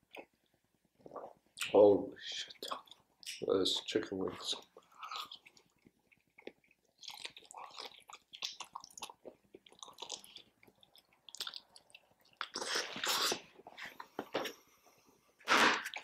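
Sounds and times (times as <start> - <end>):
wet chewing and smacking: 0.0 - 1.8, 2.4 - 14.2.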